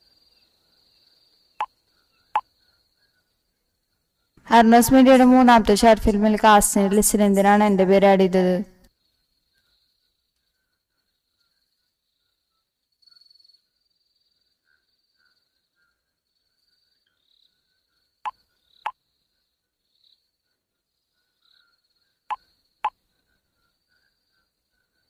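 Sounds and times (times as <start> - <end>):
faint insect chirring: 0.0 - 4.4, 8.8 - 25.0.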